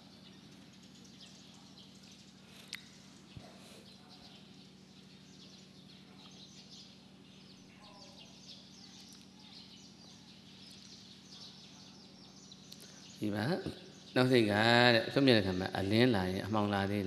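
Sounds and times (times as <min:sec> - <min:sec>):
distant birds chirping: 0:00.0 - 0:17.0
low electrical hum: 0:00.0 - 0:17.0.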